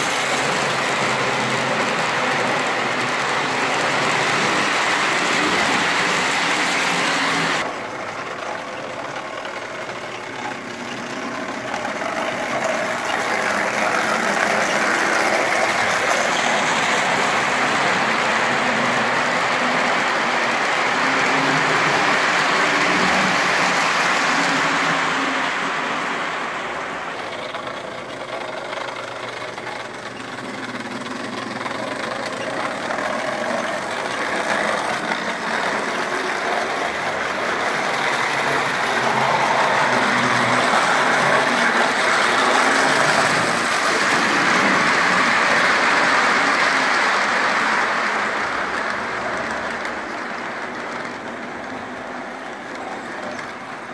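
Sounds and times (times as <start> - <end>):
model train wheels rumbling: 0.0 - 53.9.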